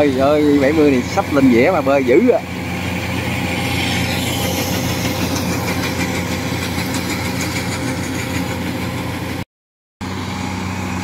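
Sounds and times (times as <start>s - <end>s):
combine harvester running: 0.0s - 9.4s, 10.0s - 11.0s.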